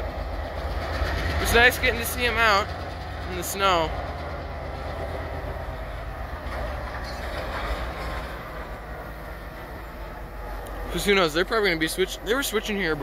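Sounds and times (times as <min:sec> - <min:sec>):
diesel locomotive engines rumbling: 0:00.0 - 0:13.0
train cars rolling on rails: 0:00.0 - 0:13.0.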